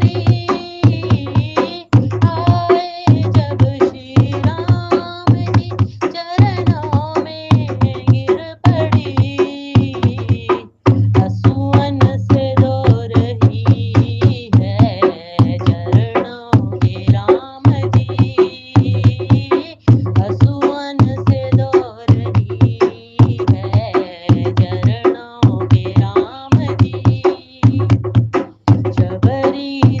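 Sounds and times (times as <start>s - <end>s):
person singing: 0.0s - 28.1s, 28.7s - 30.0s
bass: 0.0s - 29.4s
fast hand-drum beat: 0.0s - 30.0s.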